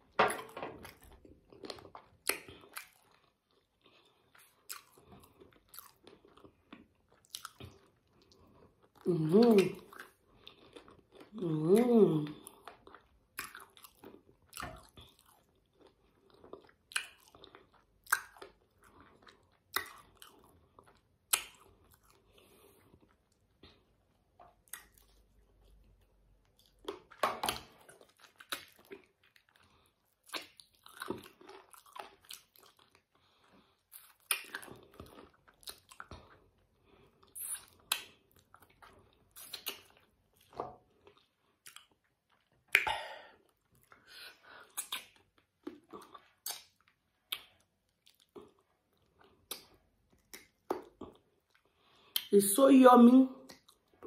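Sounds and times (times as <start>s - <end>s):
chewing crunches: 0.4s - 11.4s, 12.2s - 23.8s, 24.6s - 42.9s, 43.5s - 52.3s.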